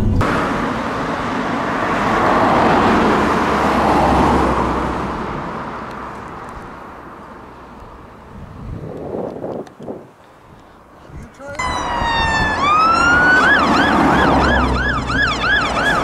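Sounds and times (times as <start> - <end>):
road vehicle passing by: 0.0 - 9.3, 11.6 - 16.0.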